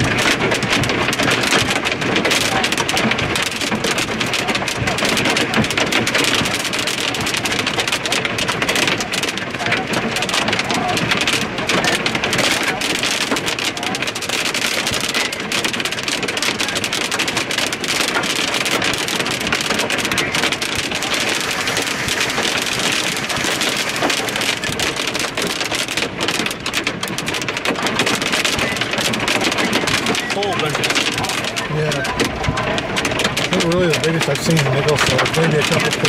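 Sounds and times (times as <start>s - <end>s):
hail and rain pelting down: 0.0s - 36.0s.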